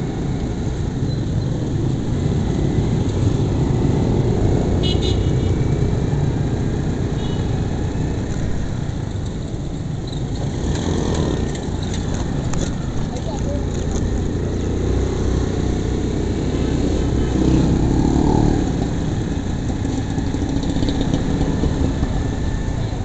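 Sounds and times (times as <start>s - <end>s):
motorcycle engine and road rumble: 0.0s - 23.0s
passing motorcycles and cars: 0.0s - 23.0s.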